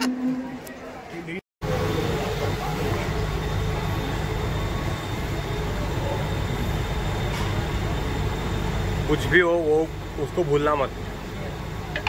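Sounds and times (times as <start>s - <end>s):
train coach rumbling: 1.6s - 12.0s.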